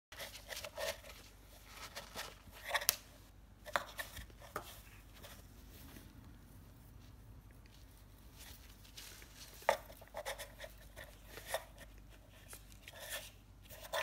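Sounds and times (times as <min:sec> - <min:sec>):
cats rustling in cardboard box: 0:00.2 - 0:02.9, 0:03.6 - 0:14.0.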